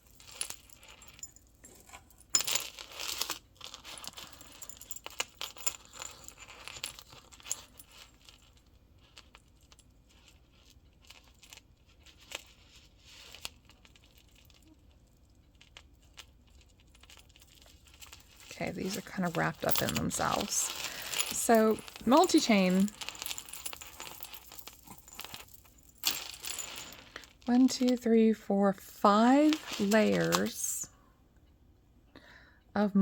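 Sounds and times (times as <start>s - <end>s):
necklace chains and beads clinking: 0.0s - 28.3s, 29.0s - 30.9s.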